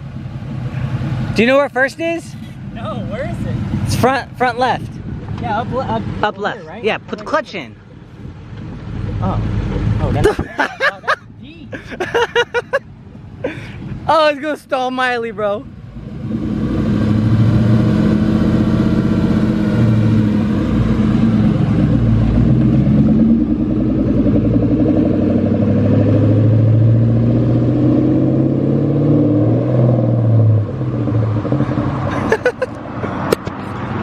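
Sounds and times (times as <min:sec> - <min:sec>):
car engine at high revs: 0:00.0 - 0:14.3, 0:15.2 - 0:34.0.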